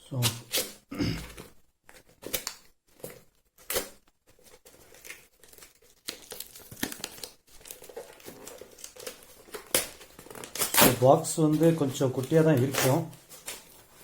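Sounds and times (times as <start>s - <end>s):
packaging crinkling: 1.9s - 14.0s
packaging ripping: 2.2s - 14.0s.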